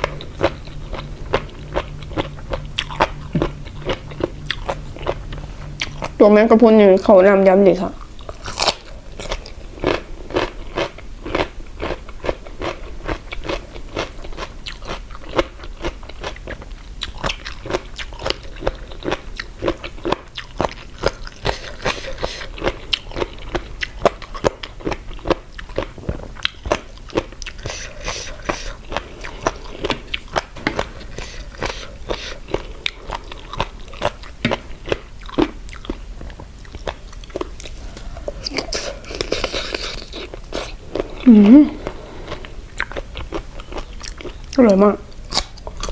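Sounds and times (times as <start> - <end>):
crunching and chewing food: 0.0 - 6.7, 7.9 - 45.9.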